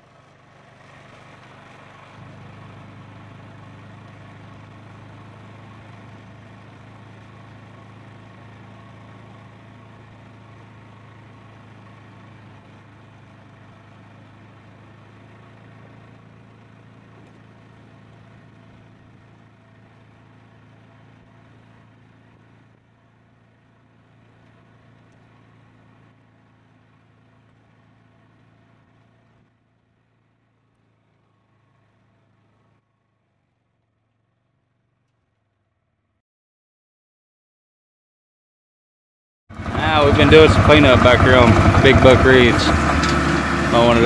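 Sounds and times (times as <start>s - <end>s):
utility vehicle engine running: 0.0s - 36.1s, 39.5s - 44.0s.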